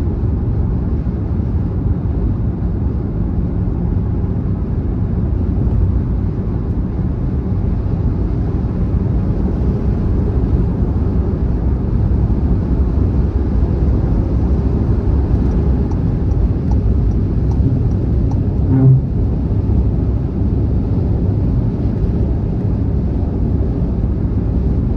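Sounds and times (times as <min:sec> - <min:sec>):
car driving on motorway: 0:00.0 - 0:24.9.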